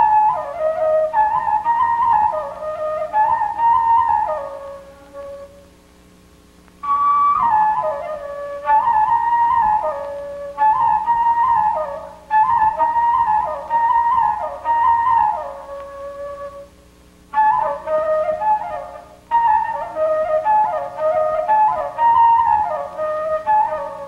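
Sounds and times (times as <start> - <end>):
solo woodwind melody: 0.0 - 5.8, 6.8 - 24.0.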